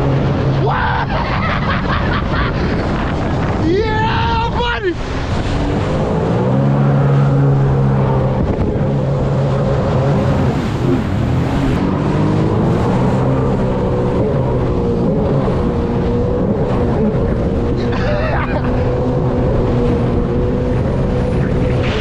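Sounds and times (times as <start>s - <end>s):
jet ski engine at speed: 0.0s - 22.0s
wind buffeting microphone: 0.0s - 22.0s.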